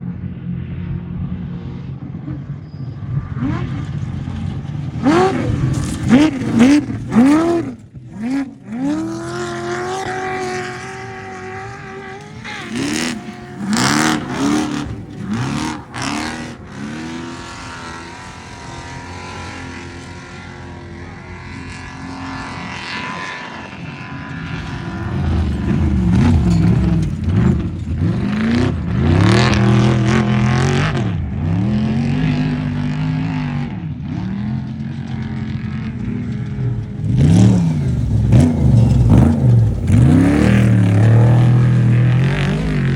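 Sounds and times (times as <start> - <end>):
truck engine revving: 3.2 - 42.9.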